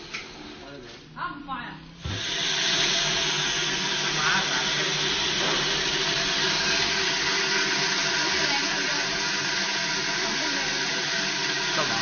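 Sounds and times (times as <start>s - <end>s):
blender running: 0.0s - 0.9s, 2.0s - 12.0s.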